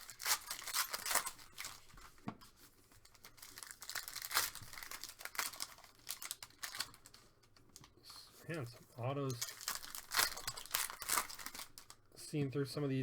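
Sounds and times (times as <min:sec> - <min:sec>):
wrappers tearing and crinkling: 0:00.0 - 0:07.9, 0:09.2 - 0:12.0.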